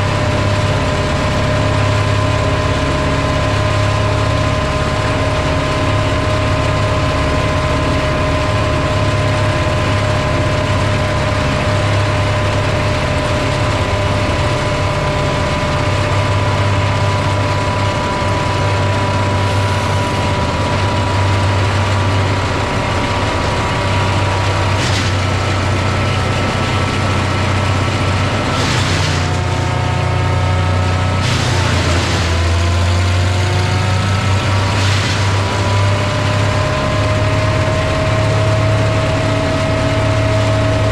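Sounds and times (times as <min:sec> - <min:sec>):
motor-driven machine humming and whining: 0:00.0 - 0:40.9.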